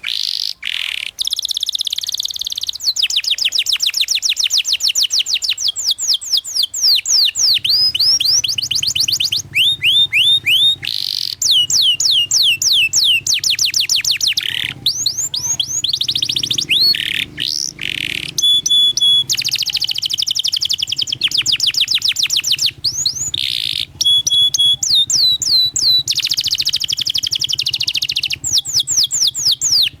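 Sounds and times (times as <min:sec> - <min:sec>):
canary singing trills: 0:00.0 - 0:30.0.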